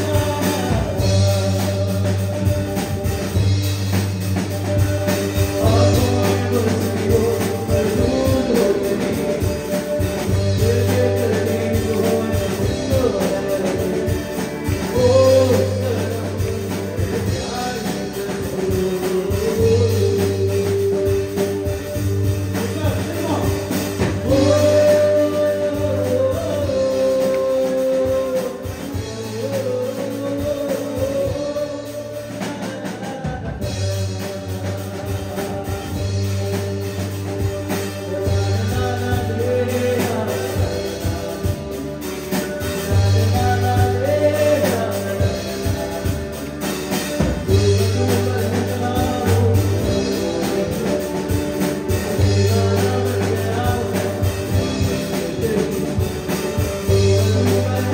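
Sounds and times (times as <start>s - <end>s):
drum kit: 0.0s - 57.9s
electric guitar: 0.0s - 57.9s
keyboard: 0.0s - 57.9s
man singing: 0.0s - 57.9s.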